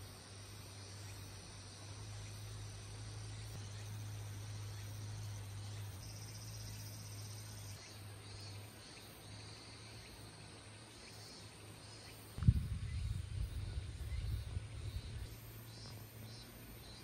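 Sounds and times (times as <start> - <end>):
insects chirping: 0.0 - 17.0
low steady hum: 0.0 - 17.0.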